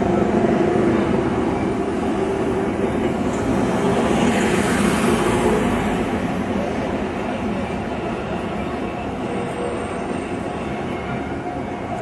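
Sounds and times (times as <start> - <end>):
passing vehicles rumble: 0.0 - 10.5.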